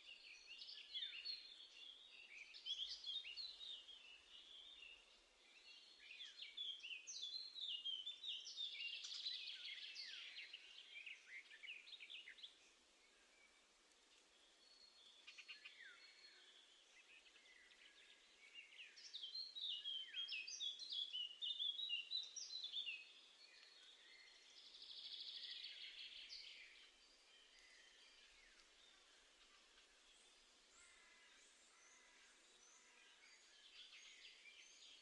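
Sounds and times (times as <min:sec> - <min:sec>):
faint outdoor hiss: 0:00.0 - 0:35.0
songbirds singing: 0:00.0 - 0:35.0.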